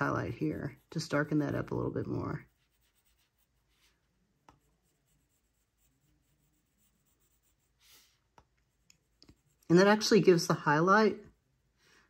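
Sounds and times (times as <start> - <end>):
pencil scratching on paper: 0.0 - 10.1.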